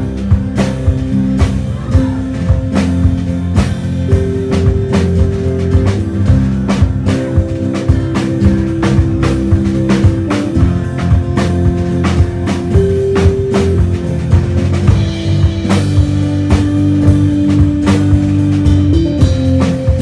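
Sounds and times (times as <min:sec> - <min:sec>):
bass guitar: 0:00.0 - 0:20.0
drum kit steady beat: 0:00.0 - 0:20.0
sustained guitar notes: 0:00.0 - 0:20.0.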